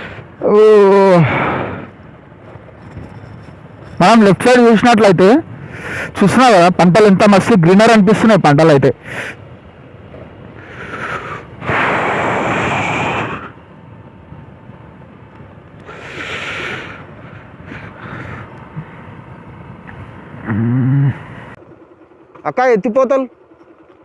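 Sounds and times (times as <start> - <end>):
motorcycle engine and road rumble: 0.0 - 24.0.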